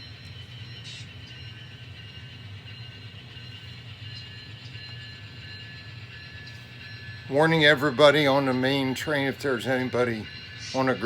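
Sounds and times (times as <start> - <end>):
model train humming and whining: 0.0 - 11.0.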